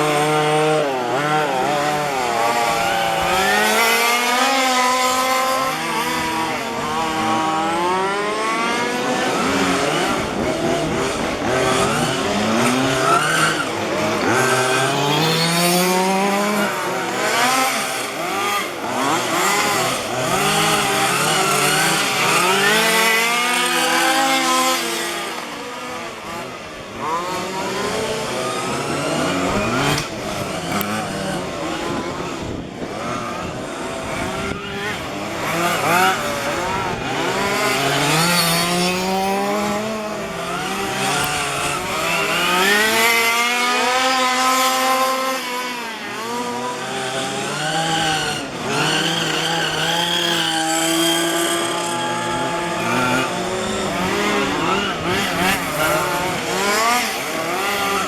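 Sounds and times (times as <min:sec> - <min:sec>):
rc car engines revving: 0:00.0 - 0:58.0.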